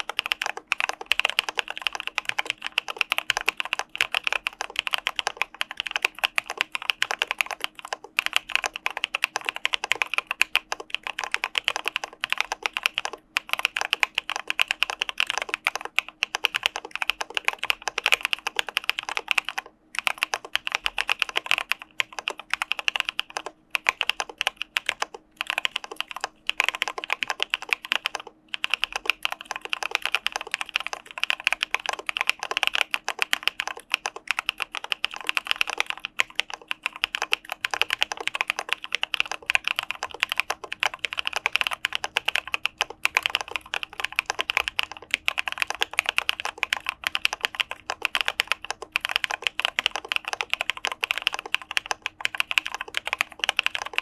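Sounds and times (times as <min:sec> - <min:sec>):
fast typing on mechanical keyboard: 0:00.0 - 0:54.0.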